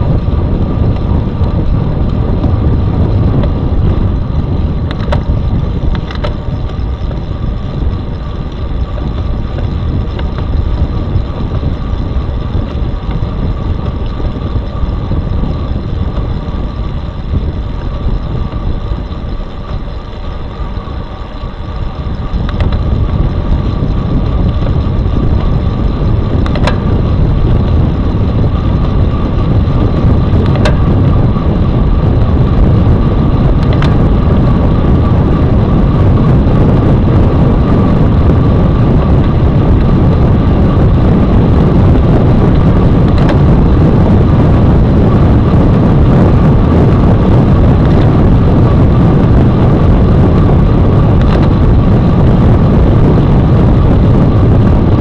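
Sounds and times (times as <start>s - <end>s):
faint steady whine: 0.0s - 55.0s
wind rushing over microphone: 0.0s - 55.0s.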